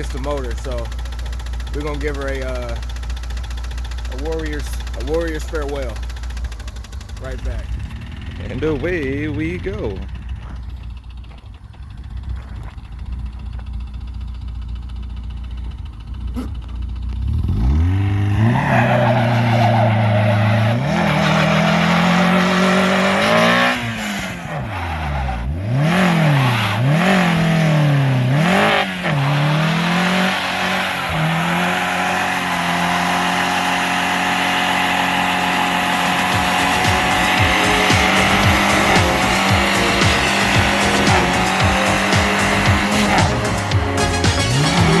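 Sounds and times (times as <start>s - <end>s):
knocking car engine revving: 0.0s - 45.0s
tyres spinning and squealing: 0.0s - 45.0s.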